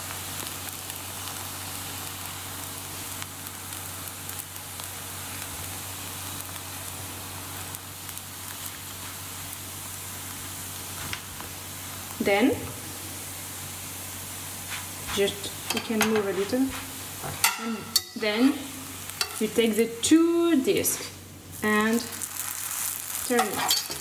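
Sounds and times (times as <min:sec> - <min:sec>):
dough sizzling in a hot pan: 0:00.0 - 0:24.0.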